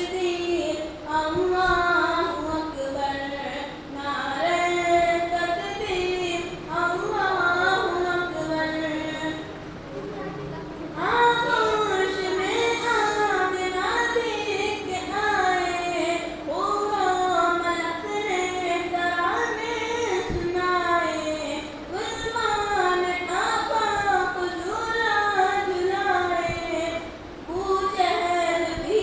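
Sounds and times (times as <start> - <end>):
young voice singing devotional song: 0.0 - 10.3, 10.9 - 29.0
faint steady hum: 0.0 - 29.0.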